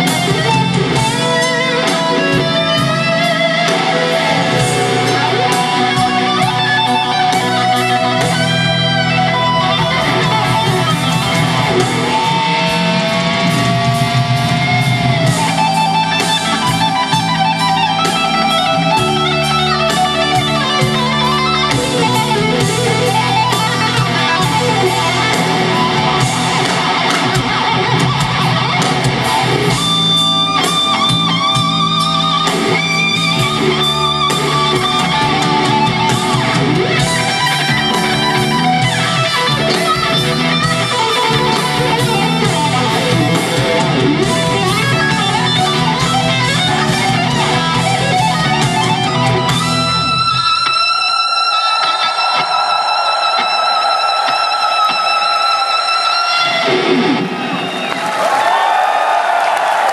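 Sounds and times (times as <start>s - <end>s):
bass: 0.0s - 51.6s
electric guitar solo: 0.0s - 58.6s
drums: 0.0s - 59.9s.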